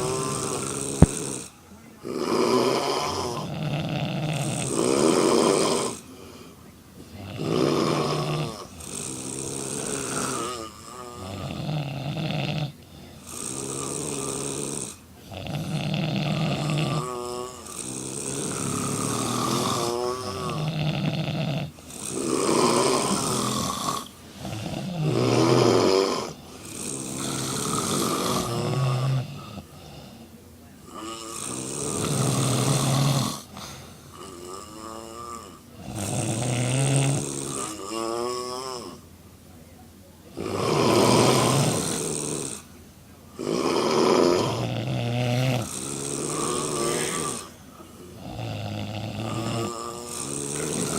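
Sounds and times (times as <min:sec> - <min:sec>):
women snoring loudly: 0:00.0 - 0:39.1, 0:40.3 - 0:42.7, 0:43.3 - 0:50.9.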